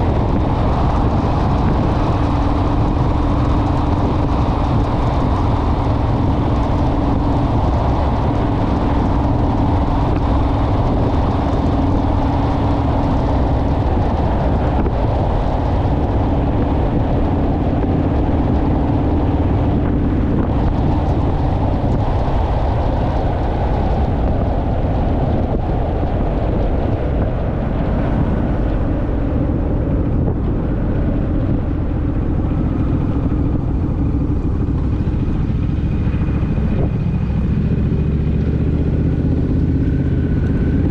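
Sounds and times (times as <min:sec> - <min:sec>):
motorcycle engine running steadily: 0:00.0 - 0:40.9
wind buffeting microphone: 0:00.0 - 0:40.9.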